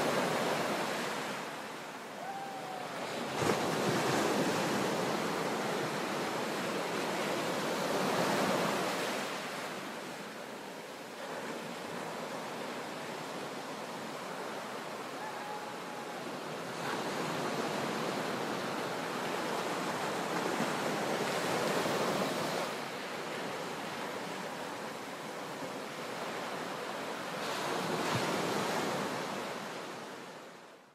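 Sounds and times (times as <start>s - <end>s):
sea waves crashing in a cave: 0.0s - 30.6s.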